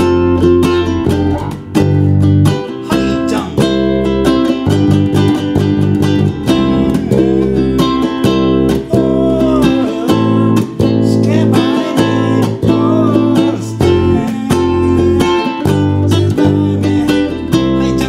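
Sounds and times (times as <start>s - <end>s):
plucked bass line: 0.0s - 18.0s
strummed acoustic chords: 0.0s - 18.0s.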